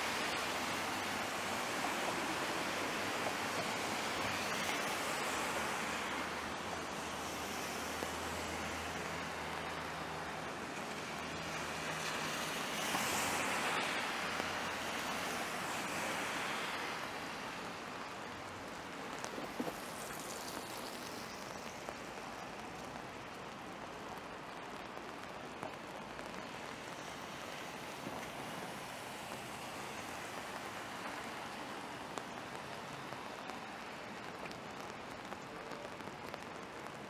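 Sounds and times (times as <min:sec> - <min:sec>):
rain on a street: 0:00.0 - 0:37.0
tyres hissing on wet road: 0:00.0 - 0:37.0.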